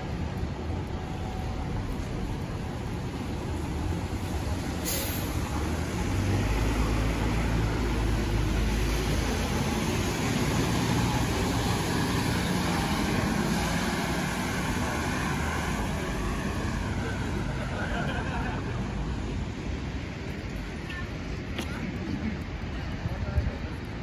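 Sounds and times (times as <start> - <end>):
rain and tyres on wet pavement: 0.0 - 24.0.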